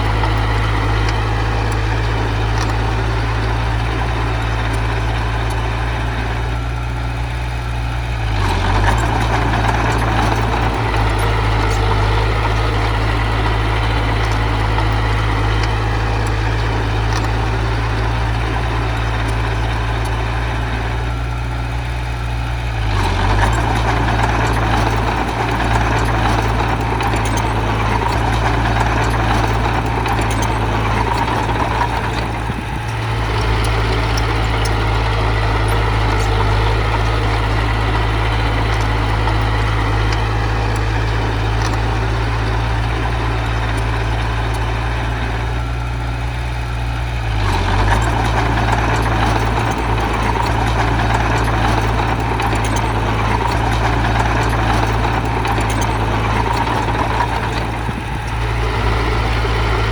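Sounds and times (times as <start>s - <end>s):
diesel engine running: 0.0s - 59.9s
engine rumble and clatter: 0.0s - 59.9s.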